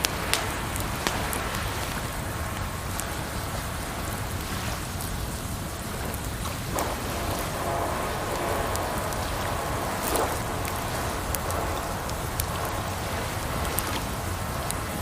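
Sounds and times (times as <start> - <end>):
campfire crackling and popping: 0.0 - 15.0
running water: 0.0 - 15.0.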